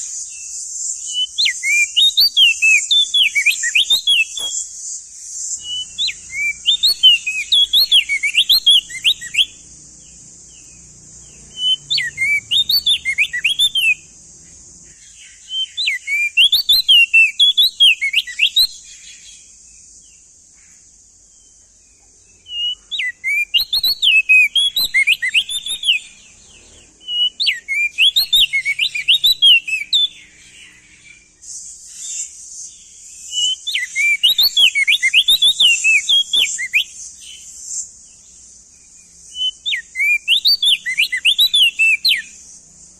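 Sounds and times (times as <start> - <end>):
bird singing whistled notes: 0.0 - 42.9
steady high hiss: 0.0 - 42.9.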